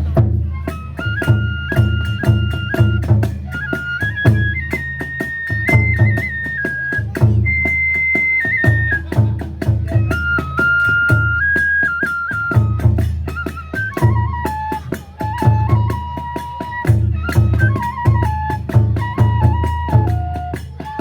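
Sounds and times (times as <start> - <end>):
bamboo flute melody: 0.0 - 21.0
drum strokes: 0.0 - 21.0.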